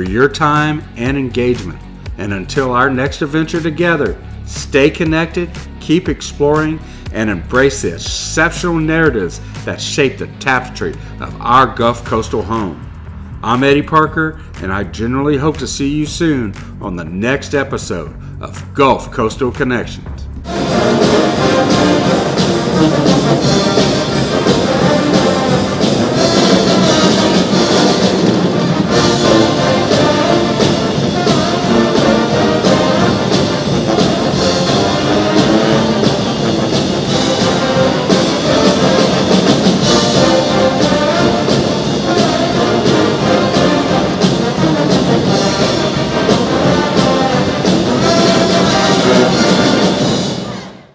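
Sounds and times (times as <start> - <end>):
brass music with trumpets: 0.0 - 18.1, 19.8 - 50.9.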